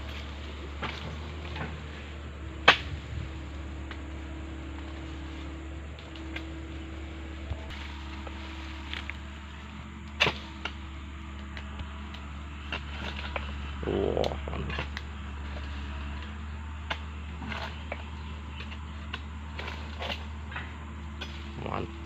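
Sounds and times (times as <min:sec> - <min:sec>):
low rumble: 0:00.0 - 0:22.0
rustling crunch of fronds: 0:00.0 - 0:22.0.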